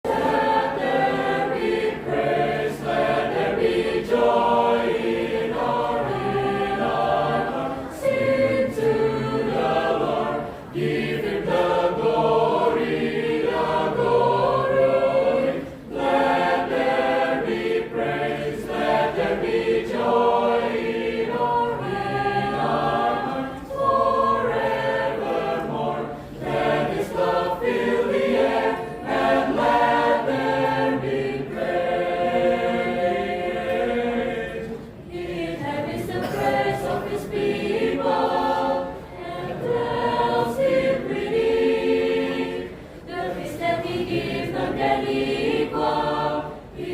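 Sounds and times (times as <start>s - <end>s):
choir singing in harmony: 0.0s - 46.9s.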